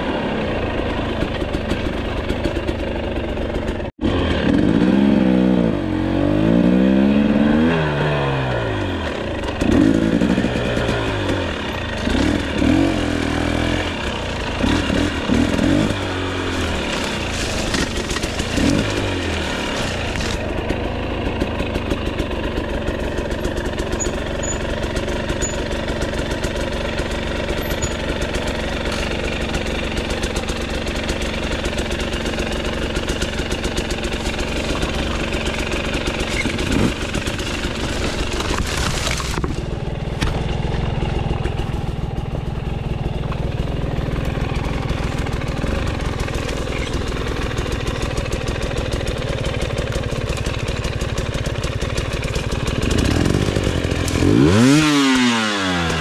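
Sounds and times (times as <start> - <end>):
dirt bike engine idling: 0.0 - 56.0.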